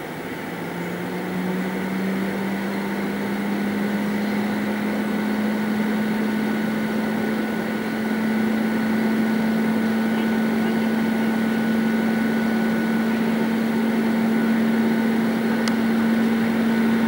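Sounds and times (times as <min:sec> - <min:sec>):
electric locomotive humming: 0:00.0 - 0:17.0
high-pitched whines: 0:00.0 - 0:17.0.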